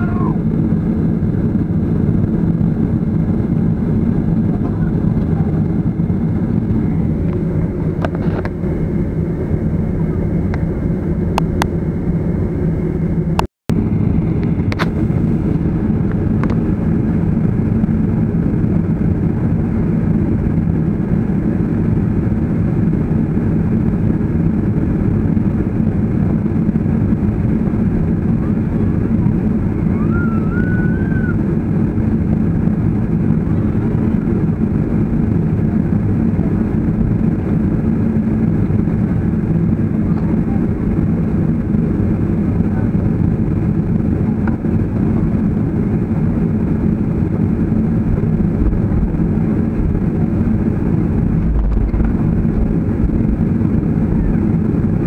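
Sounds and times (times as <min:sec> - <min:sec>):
jet engines and cabin air hum: 0:00.0 - 0:55.0.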